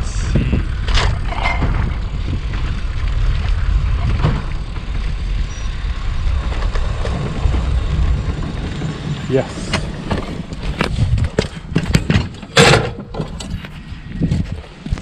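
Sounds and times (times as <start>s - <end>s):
bicycle tyre noise on road: 0.0s - 15.0s
wind buffeting microphone: 0.0s - 15.0s.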